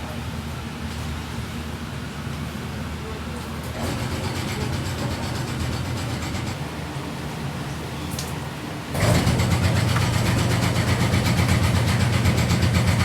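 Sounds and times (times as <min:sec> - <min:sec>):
street noise: 0:01.4 - 0:13.0.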